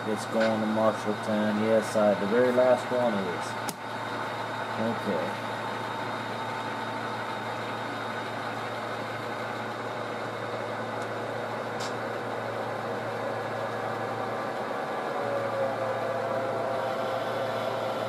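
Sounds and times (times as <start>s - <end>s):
model locomotive diesel drone: 0.0s - 18.0s.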